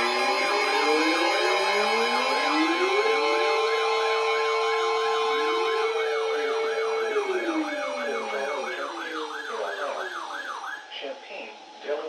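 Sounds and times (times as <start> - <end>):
low tone sliding down: 0.0 - 10.5
electronic siren yelping: 0.0 - 10.9.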